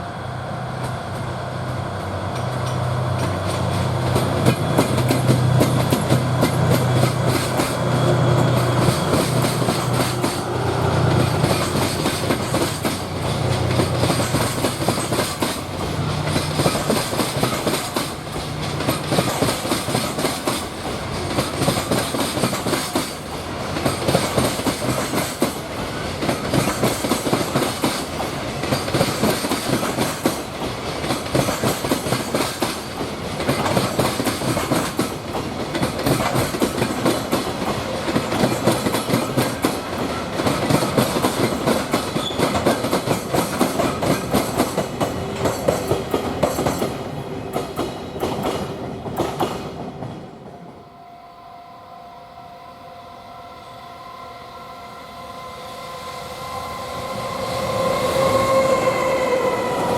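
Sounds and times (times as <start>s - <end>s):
train wheels clattering over rail joints: 0.8s - 50.2s.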